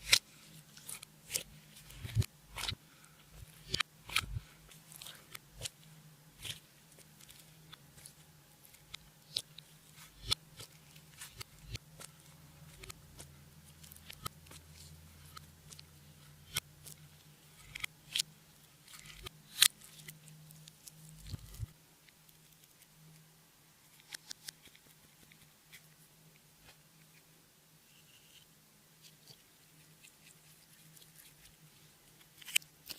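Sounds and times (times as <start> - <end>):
faint low hum: 0.0 - 32.9.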